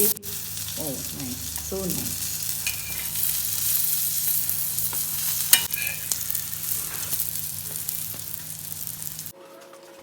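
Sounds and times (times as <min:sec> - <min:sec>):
food sizzling in a pan: 0:00.0 - 0:09.3.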